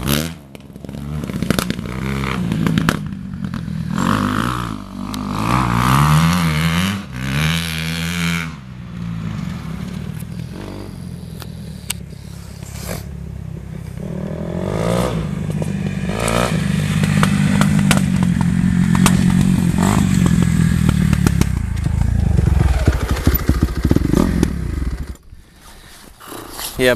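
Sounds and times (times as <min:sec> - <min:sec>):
dirt bike engine revving: 0:00.0 - 0:25.2.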